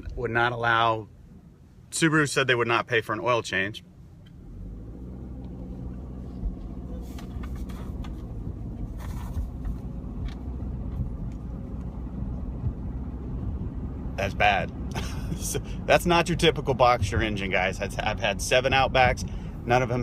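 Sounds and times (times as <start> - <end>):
car engine low rumble: 0.0 - 20.0.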